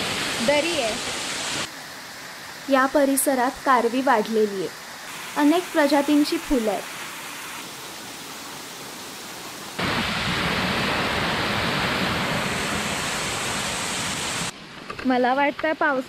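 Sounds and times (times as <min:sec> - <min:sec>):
waterfall rushing and splashing: 0:00.0 - 0:14.5.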